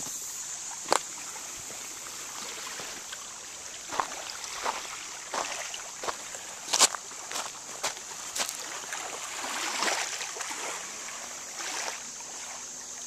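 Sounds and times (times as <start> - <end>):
small waves splashing on shore: 0.0 - 13.0
steady high hiss: 0.0 - 13.0.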